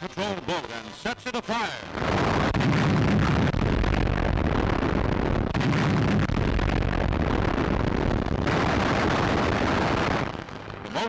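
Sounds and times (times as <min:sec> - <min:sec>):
naval gunfire and explosions: 0:01.4 - 0:11.0.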